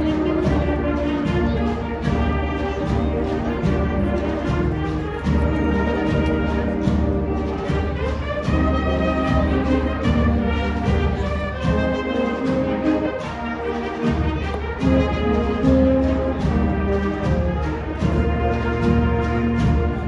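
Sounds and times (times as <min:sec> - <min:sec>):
brass melody notes: 0:00.0 - 0:20.0
steady drum beats: 0:00.0 - 0:20.0.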